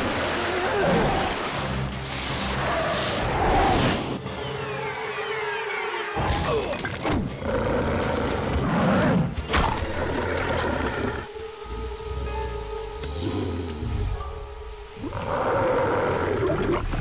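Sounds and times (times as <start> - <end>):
film soundtrack music: 0.0 - 17.0.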